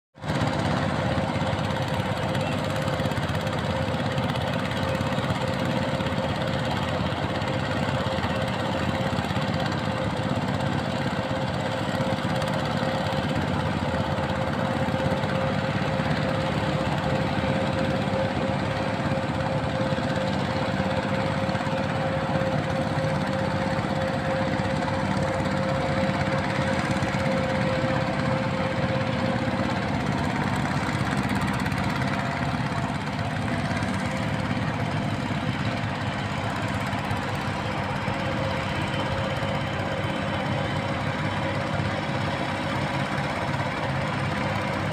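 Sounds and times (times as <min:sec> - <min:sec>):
hand tractor engine drone: 0:00.2 - 0:44.9
constant high hum: 0:00.3 - 0:44.9.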